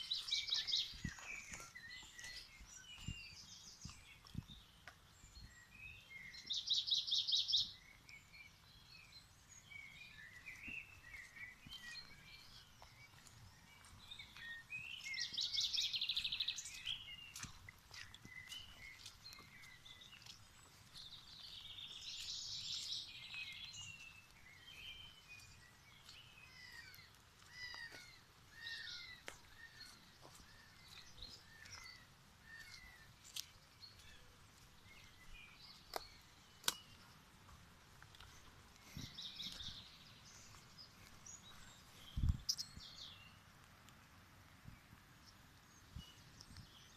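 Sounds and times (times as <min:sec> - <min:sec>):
wild birds singing and chirping: 0:00.0 - 0:46.9.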